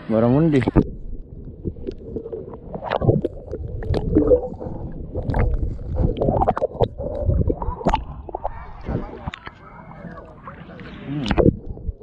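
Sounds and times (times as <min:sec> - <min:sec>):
muffled underwater gurgling: 0:00.0 - 0:12.0.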